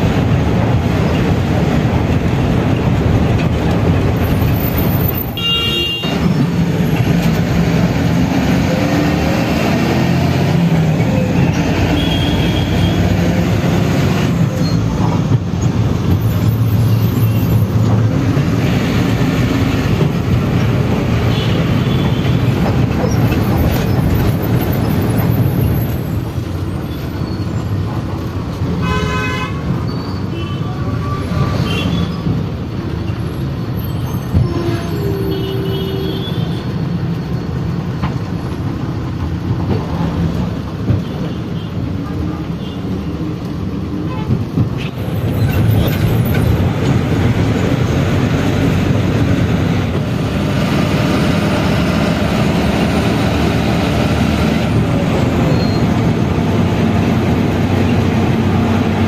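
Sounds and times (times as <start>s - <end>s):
bus engine running: 0.0s - 28.8s, 31.4s - 59.0s.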